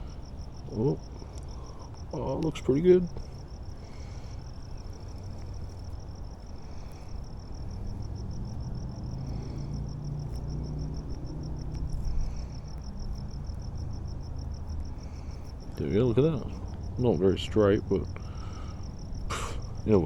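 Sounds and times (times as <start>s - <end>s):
cricket chirping: 0.0s - 20.0s
low rumble: 3.1s - 20.0s.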